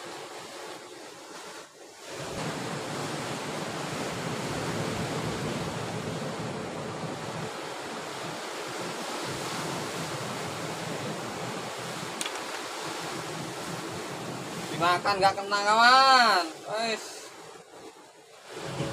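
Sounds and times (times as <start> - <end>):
waves breaking on rocky shore: 0.0 - 18.9.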